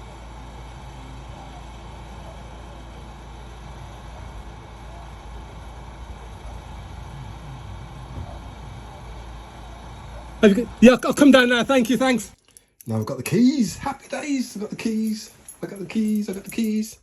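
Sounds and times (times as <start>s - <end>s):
low background rumble with hiss: 0.0s - 17.0s.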